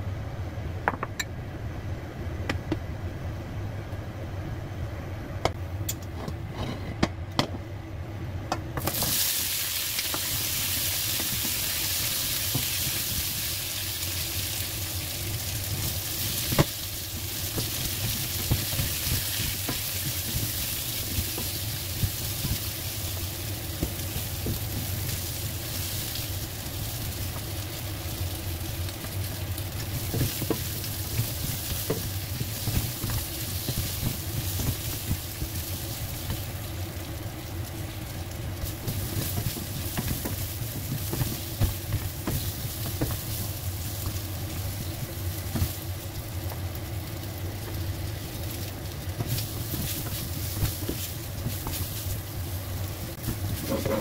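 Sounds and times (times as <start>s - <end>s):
rice cakes sizzling in oil: 8.8s - 54.0s.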